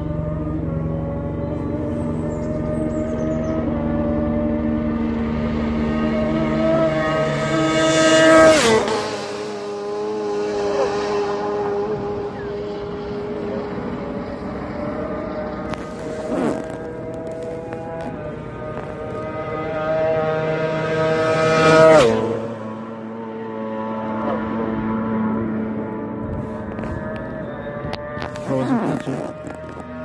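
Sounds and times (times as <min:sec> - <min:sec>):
racing engine passing at speed: 0:00.0 - 0:30.0.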